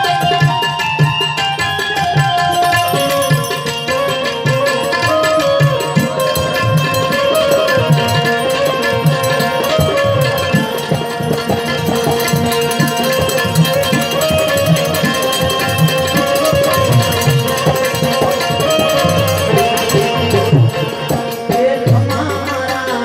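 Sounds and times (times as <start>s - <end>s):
harmonium sustained notes: 0.0s - 23.0s
tabla beat: 0.0s - 23.0s.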